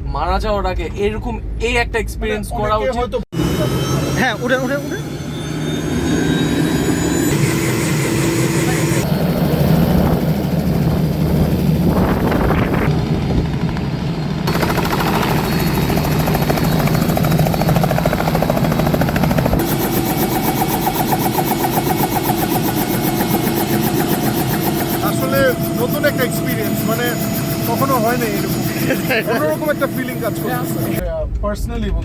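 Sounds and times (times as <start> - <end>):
helicopter rotor and turbine: 3.3 - 31.0.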